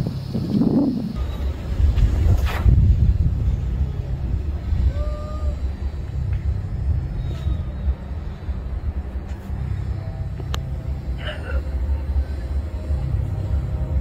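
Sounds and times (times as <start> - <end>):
outdoor rumble on microphone: 0.0 - 14.0.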